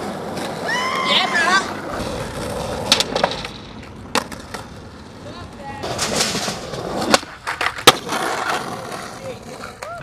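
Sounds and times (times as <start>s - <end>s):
skateboard wheels rolling: 0.0s - 10.0s
skateboard clacking down: 1.6s - 10.0s.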